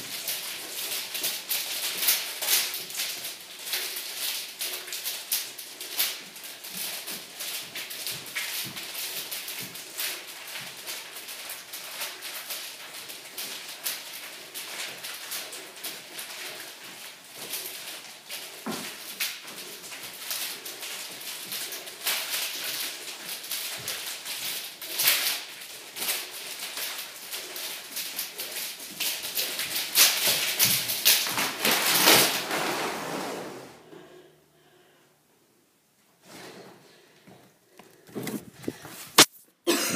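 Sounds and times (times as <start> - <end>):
hula hoops swishing and clattering: 0.0 - 34.0, 36.2 - 39.7.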